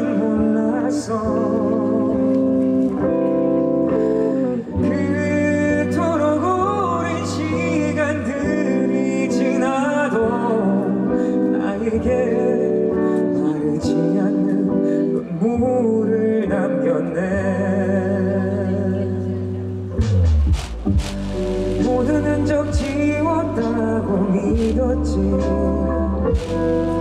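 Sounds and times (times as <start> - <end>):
guitar: 0.0 - 27.0
man singing: 0.0 - 27.0.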